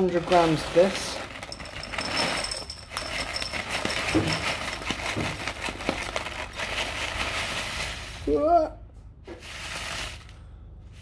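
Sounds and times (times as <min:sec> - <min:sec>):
crinkling packaging rustle: 0:00.0 - 0:08.3, 0:09.3 - 0:10.4.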